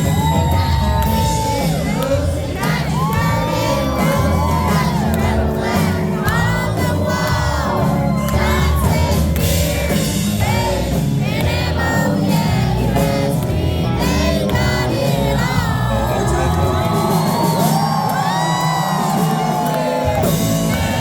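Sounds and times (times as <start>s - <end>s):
crowd whooping and shouting: 0.0s - 11.1s, 14.7s - 21.0s
lead vocal singing: 0.0s - 21.0s
live country band playing: 0.0s - 21.0s.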